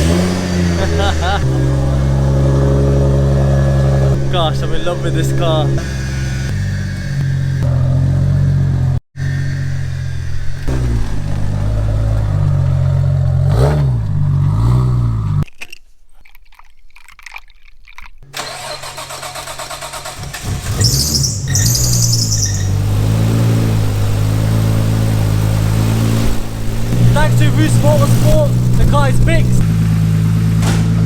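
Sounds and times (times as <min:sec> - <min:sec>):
car engine revving: 0:00.0 - 0:15.4, 0:18.4 - 0:31.0.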